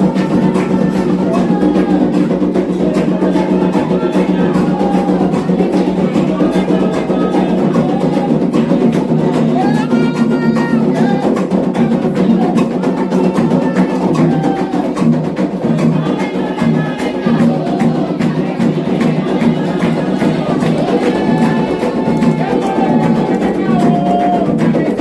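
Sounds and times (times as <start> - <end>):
hand drums playing rhythm: 0.0 - 25.0
voices singing a chant: 0.0 - 25.0.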